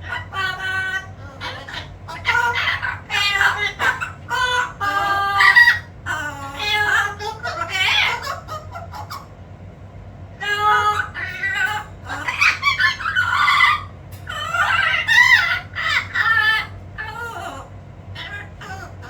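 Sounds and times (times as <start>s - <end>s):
parrots squawking: 0.0s - 9.4s, 10.3s - 19.0s.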